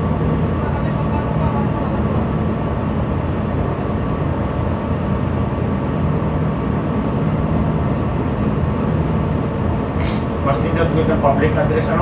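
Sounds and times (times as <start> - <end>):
faint hum: 0.0 - 12.0
ship engine rumble: 0.0 - 12.0.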